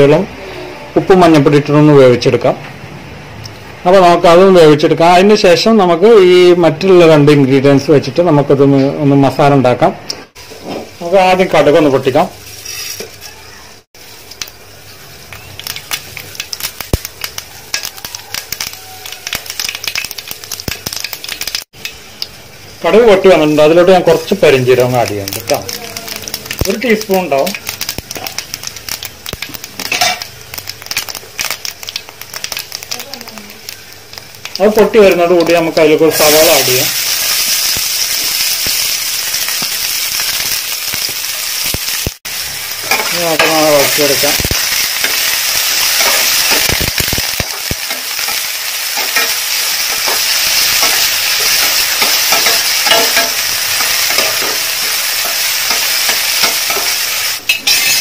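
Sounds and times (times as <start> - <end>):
seeds sizzling and popping in oil: 10.2 - 58.0.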